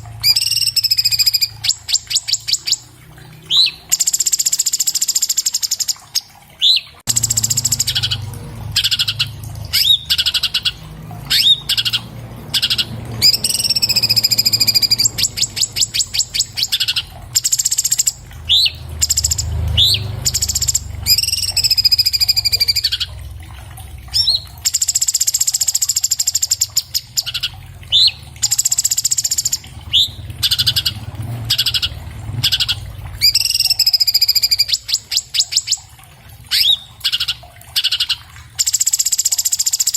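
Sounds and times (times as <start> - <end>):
bird singing fast varied song: 0.0 - 2.9, 3.5 - 23.2, 24.1 - 35.8, 36.5 - 39.9.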